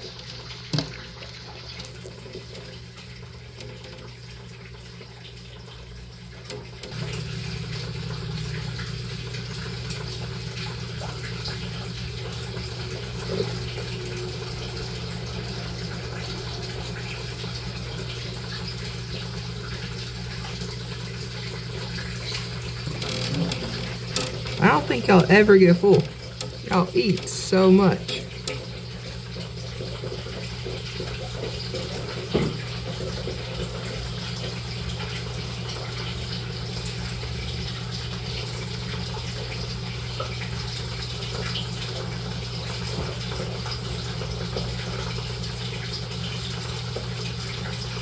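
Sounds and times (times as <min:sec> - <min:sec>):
running water: 0:00.0 - 0:48.0.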